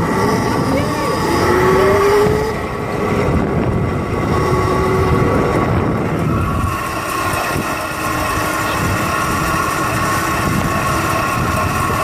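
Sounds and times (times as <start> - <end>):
electric motor whine: 0.0 - 12.0
rough rumbling noise: 0.0 - 12.0.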